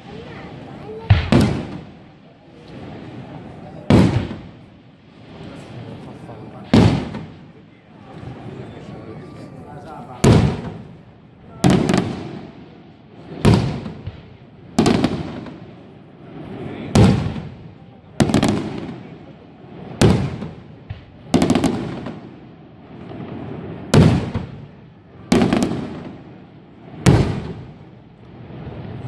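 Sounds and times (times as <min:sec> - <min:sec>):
firework shells bursting with echo: 0:00.6 - 0:07.6, 0:10.0 - 0:29.0.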